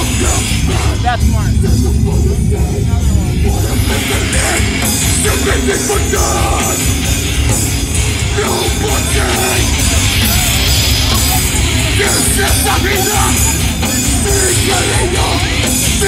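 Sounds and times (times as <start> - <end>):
loud live hardcore band: 0.0 - 16.0.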